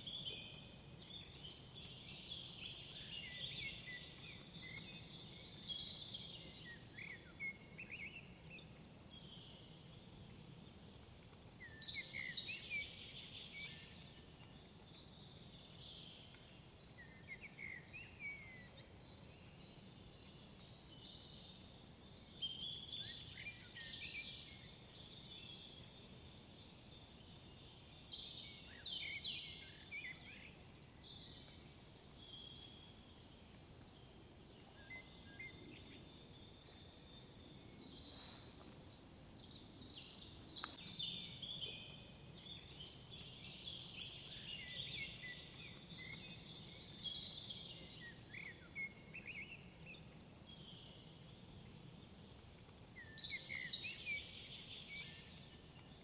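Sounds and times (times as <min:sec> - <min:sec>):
faint forest background: 0:00.0 - 0:56.0
songbirds chirping and trilling: 0:00.2 - 0:56.0.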